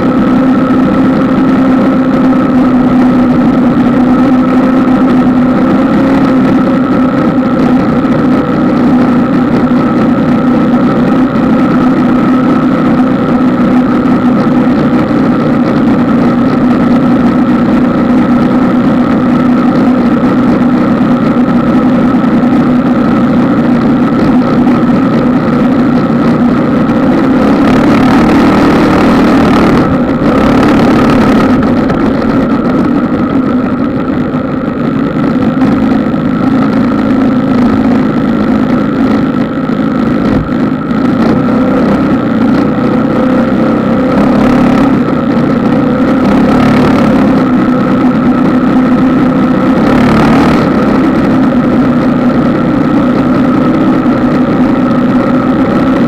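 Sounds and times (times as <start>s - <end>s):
vehicle engine running steadily: 0.0s - 56.0s.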